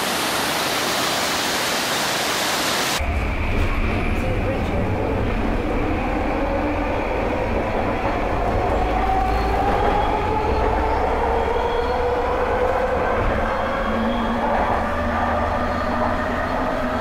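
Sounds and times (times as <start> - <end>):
train wheels rumbling on rails: 3.0 - 17.0.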